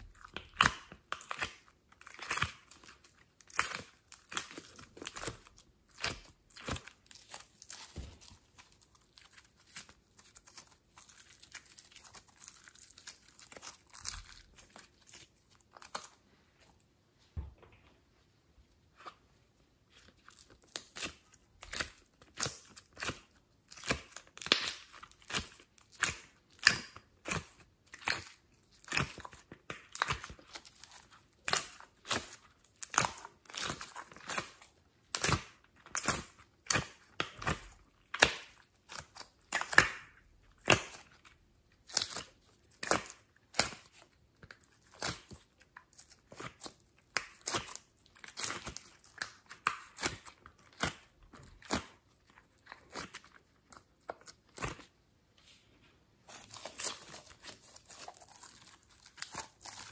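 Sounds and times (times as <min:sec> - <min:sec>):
slime squishing: 0:00.0 - 0:16.8, 0:19.8 - 0:55.0, 0:55.7 - 0:59.9.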